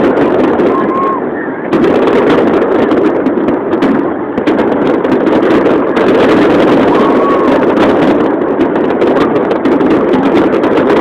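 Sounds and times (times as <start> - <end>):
dense steady rumble: 0.0 - 11.0
fireworks bangs and crackles: 0.0 - 11.0.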